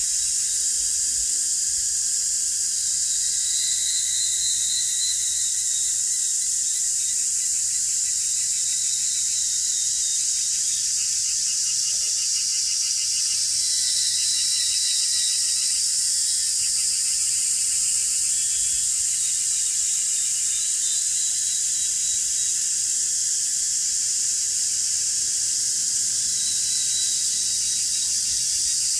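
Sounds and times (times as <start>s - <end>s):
high-pitched insect chorus: 0.0s - 28.9s
pulsing insect trill: 2.9s - 28.9s.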